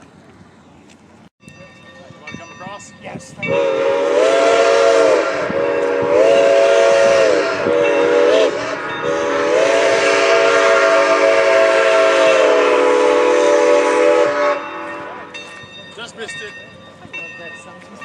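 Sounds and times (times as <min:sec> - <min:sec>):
locomotive horn chime blasts: 0:01.4 - 0:16.4.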